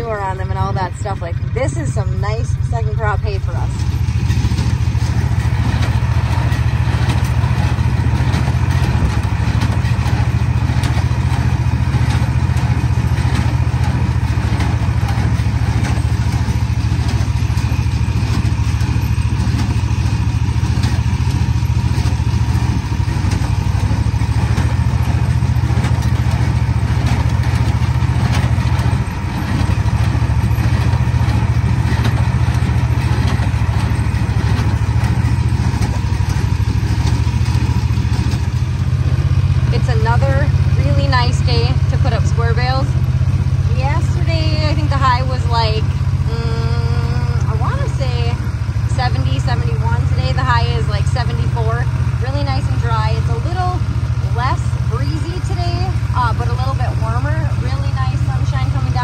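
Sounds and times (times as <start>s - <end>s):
baler working: 0.0s - 59.0s
tractor engine droning: 0.0s - 59.0s.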